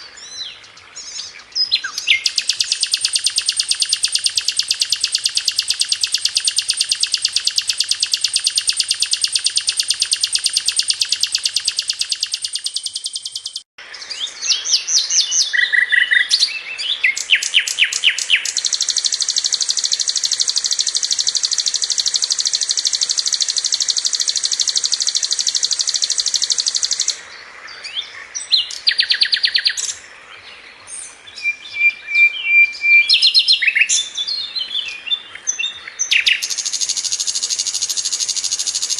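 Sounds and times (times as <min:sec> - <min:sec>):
bird chirps: 0:00.0 - 0:38.9
bird trilling: 0:01.8 - 0:13.7, 0:14.5 - 0:27.2, 0:31.4 - 0:38.9.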